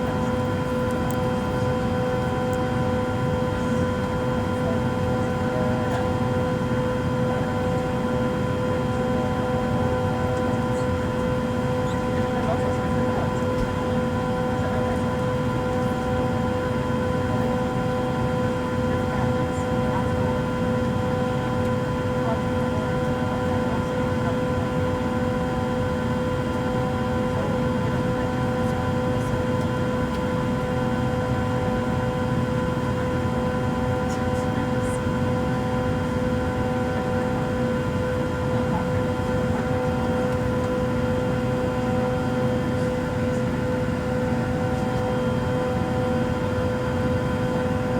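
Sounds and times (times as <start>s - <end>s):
airliner cabin drone: 0.0s - 47.9s.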